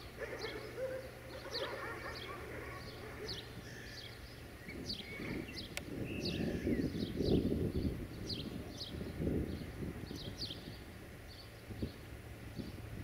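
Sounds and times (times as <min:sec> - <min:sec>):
birds chirping: 0:00.0 - 0:13.0
faint low hum: 0:00.0 - 0:13.0.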